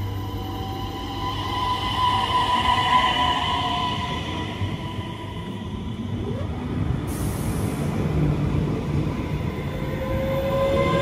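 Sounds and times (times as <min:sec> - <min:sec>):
thin train whine: 0:00.0 - 0:11.0
train rumble: 0:01.6 - 0:11.0.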